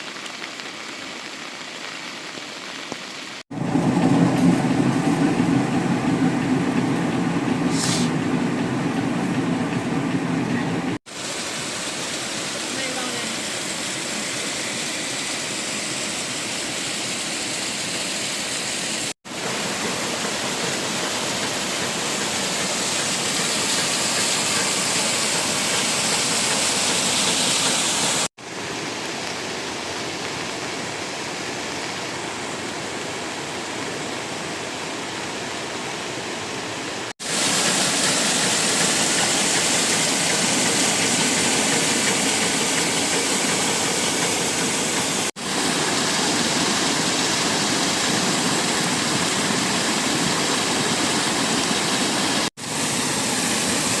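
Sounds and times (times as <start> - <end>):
water rushing: 3.4 - 54.0.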